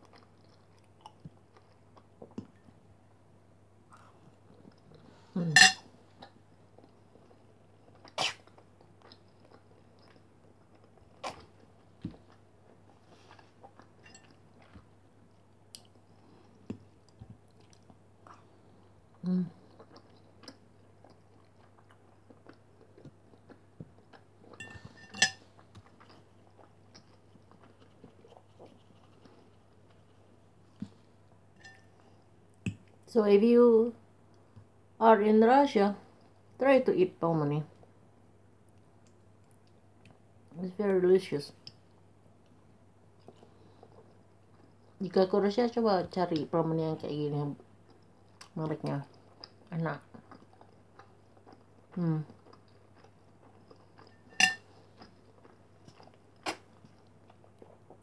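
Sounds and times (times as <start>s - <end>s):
person chewing food: 0.0s - 3.2s, 3.9s - 33.1s, 38.6s - 40.3s, 41.6s - 45.0s, 47.6s - 58.0s
low steady hum: 0.0s - 58.0s.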